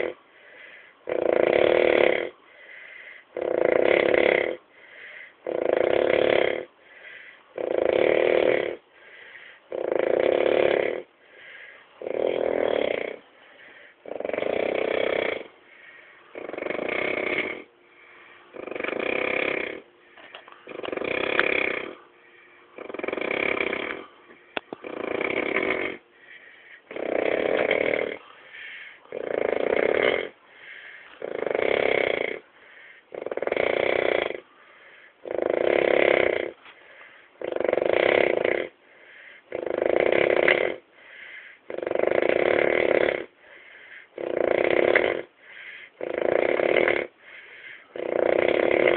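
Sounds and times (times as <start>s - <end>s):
person snoring: 0.0s - 48.9s.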